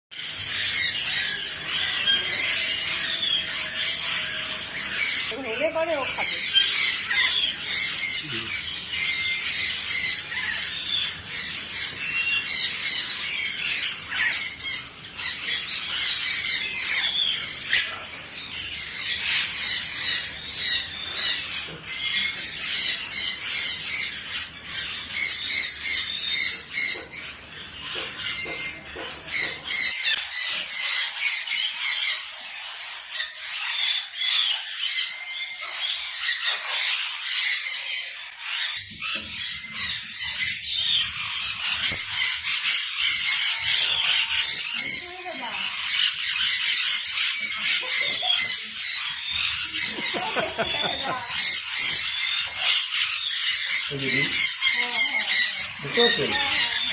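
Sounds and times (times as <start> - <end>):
small birds chattering: 0.1 - 56.9.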